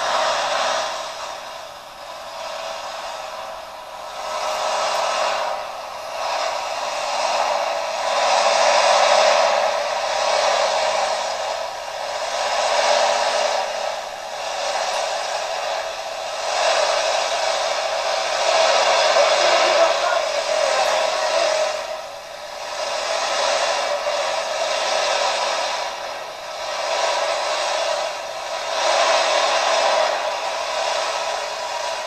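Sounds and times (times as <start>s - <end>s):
tractor engine running under load: 0.0s - 32.0s.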